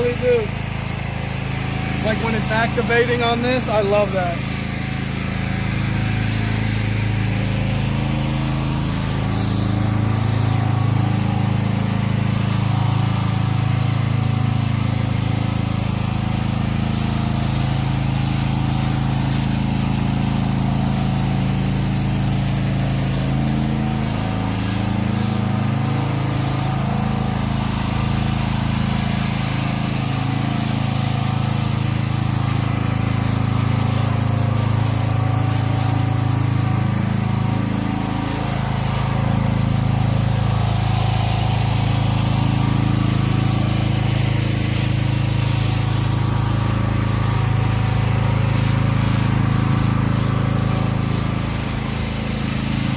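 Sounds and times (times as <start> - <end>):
pressure washer engine running: 0.0 - 52.9
spray hissing: 0.0 - 52.9.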